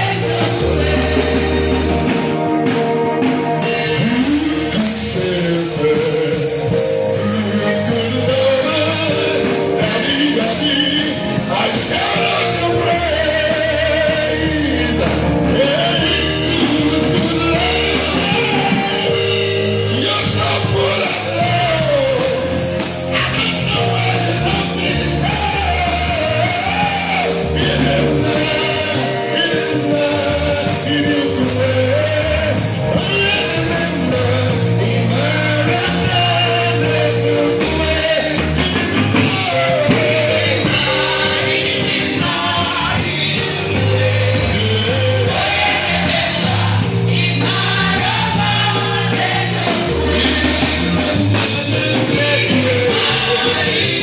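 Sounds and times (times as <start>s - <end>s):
gospel choir singing: 0.0s - 54.0s
live band with bass and beat: 0.0s - 54.0s.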